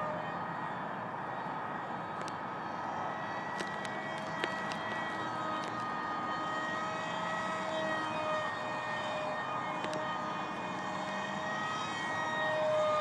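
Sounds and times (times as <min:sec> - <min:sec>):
electric motor propeller whine: 0:00.0 - 0:13.0.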